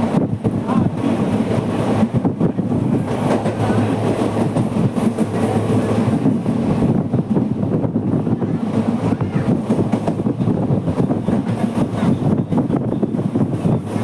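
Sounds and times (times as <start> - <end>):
clickety-clack of rail joints: 0.0 - 14.0
train wheels rumbling on rail: 0.0 - 14.0.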